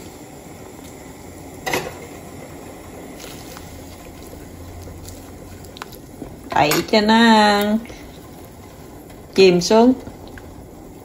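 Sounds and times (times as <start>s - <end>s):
water boiling and bubbling: 0.0s - 11.0s.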